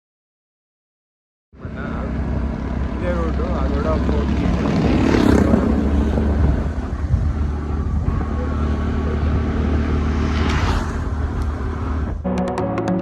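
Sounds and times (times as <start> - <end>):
motorbike engine rumble: 1.6 - 12.3
wind buffeting microphone: 1.6 - 12.3.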